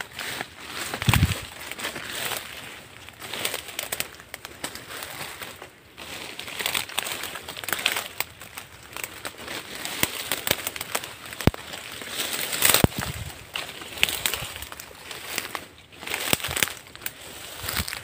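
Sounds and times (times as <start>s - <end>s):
footsteps through undergrowth: 0.0s - 18.0s
leaves and grass rustling: 0.0s - 18.0s
twigs crackling and snapping: 0.0s - 18.0s.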